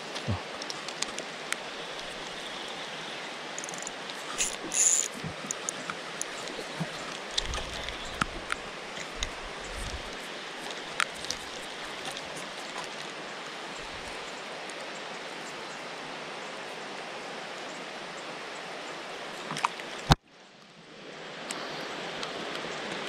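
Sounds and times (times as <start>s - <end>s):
rain falling on water: 0.0s - 20.8s.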